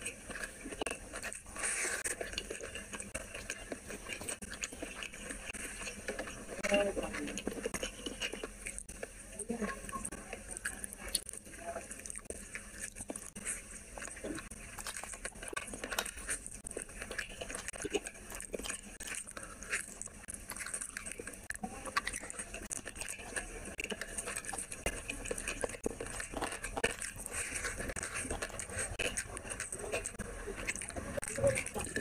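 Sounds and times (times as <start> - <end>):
person chewing with wet clicks: 0.0 - 32.0.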